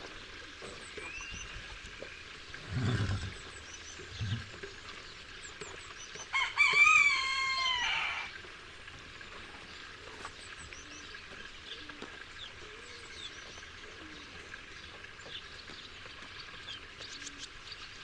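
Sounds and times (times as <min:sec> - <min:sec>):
small birds chirping: 0:00.0 - 0:06.5, 0:09.2 - 0:18.0.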